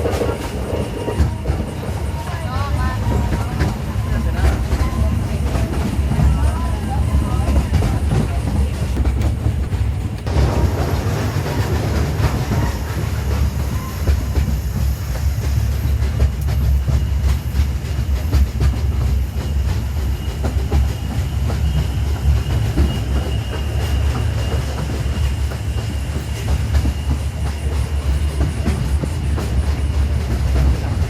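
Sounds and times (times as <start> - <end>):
train wheels clacking on rails: 0.0 - 31.0.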